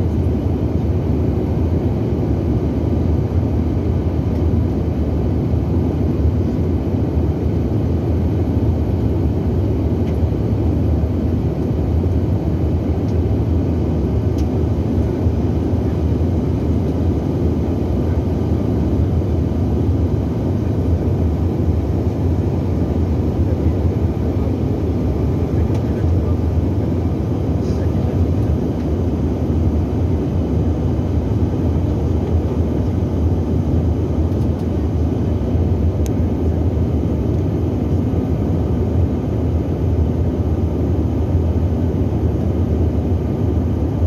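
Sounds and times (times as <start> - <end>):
jet engine and airflow drone: 0.0 - 44.0.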